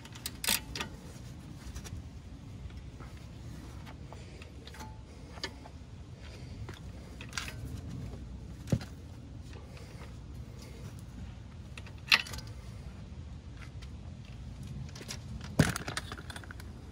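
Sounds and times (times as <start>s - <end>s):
low steady rumble: 0.0s - 16.9s.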